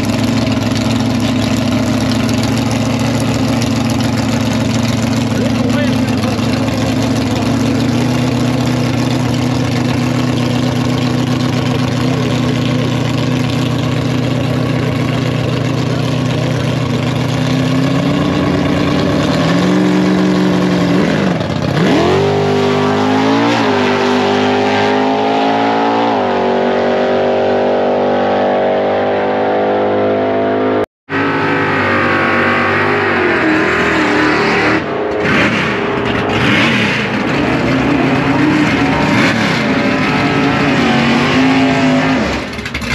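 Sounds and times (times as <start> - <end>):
drag car engines revving: 0.0 - 42.9.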